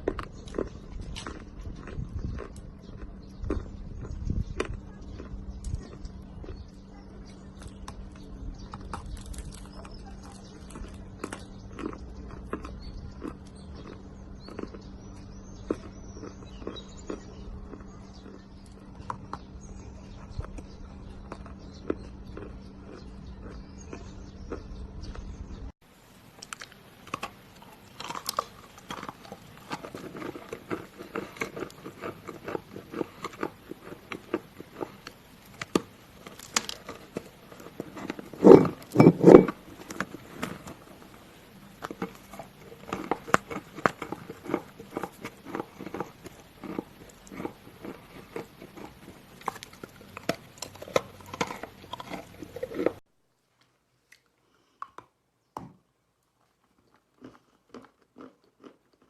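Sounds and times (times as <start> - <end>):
chewing crunchy chalk: 0.0 - 25.4, 26.4 - 53.0, 56.4 - 59.0.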